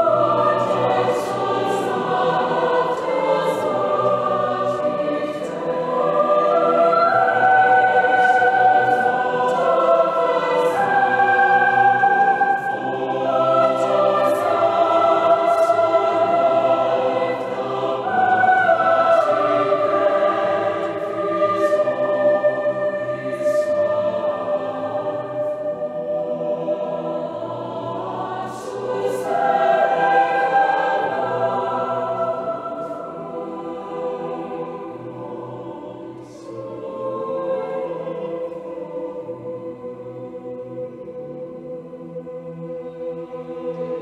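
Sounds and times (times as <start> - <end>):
choir singing: 0.0 - 44.0.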